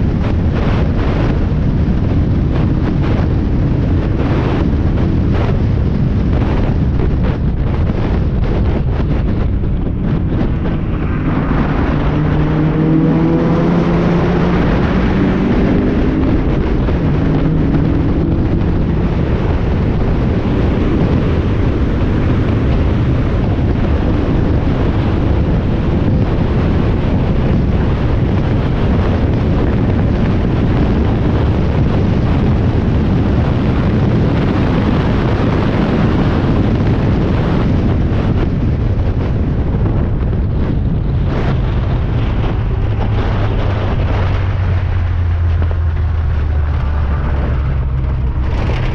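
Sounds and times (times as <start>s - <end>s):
race car engine: 0.0s - 48.9s
wind noise on microphone: 0.0s - 48.9s.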